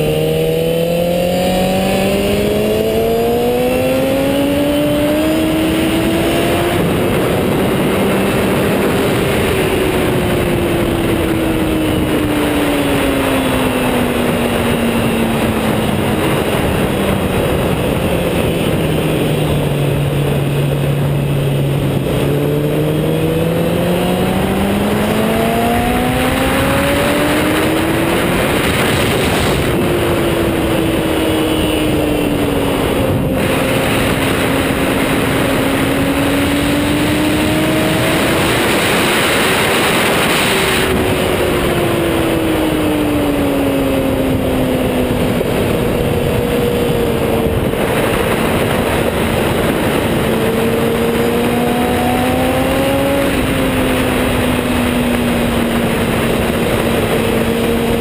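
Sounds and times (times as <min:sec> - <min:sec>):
motorcycle engine revving: 0:00.0 - 0:58.0
wind rushing on microphone: 0:00.0 - 0:58.0.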